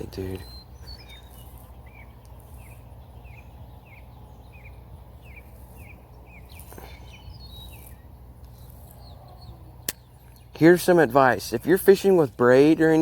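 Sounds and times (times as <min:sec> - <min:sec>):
higher bird chirps: 0:00.0 - 0:11.5
low outdoor rumble: 0:00.0 - 0:13.0.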